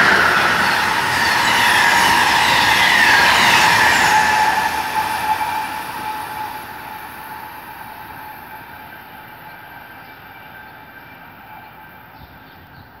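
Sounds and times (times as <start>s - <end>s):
passenger train rolling on rails: 0.0s - 13.0s.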